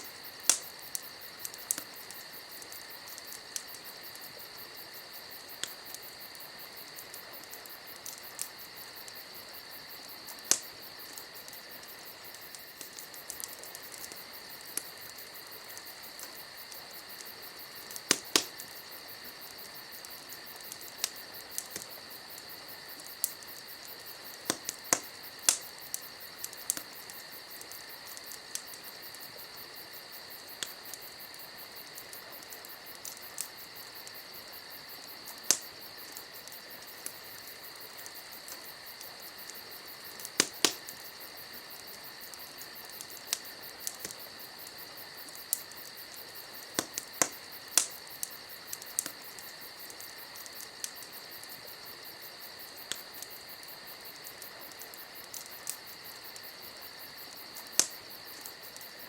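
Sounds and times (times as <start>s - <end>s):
campfire crackling: 0.0s - 59.0s
crickets chirring: 0.0s - 59.0s.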